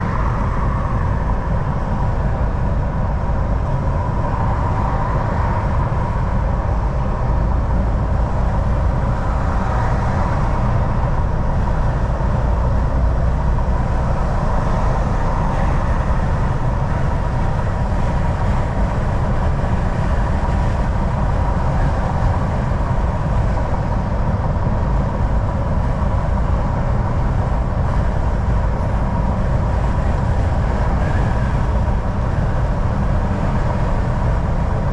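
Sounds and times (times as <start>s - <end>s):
faint steady whine: 0.0s - 34.9s
road and tyre rumble: 0.0s - 34.9s
truck engine drone: 0.0s - 34.9s.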